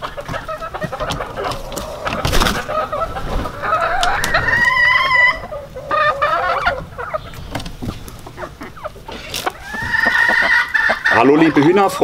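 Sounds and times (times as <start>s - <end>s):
chickens clucking and calling: 0.0s - 12.0s.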